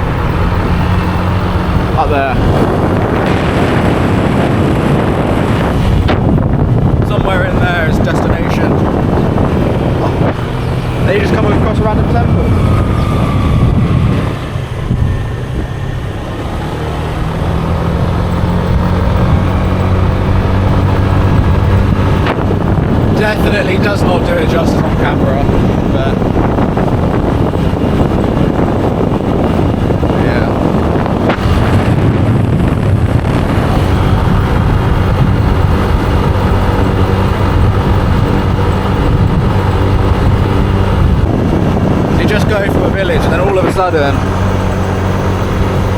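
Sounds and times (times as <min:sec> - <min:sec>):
motorbike engine running: 0:00.0 - 0:45.9
road noise: 0:00.0 - 0:45.9
rush of travel: 0:00.0 - 0:45.9
wind: 0:00.0 - 0:45.9.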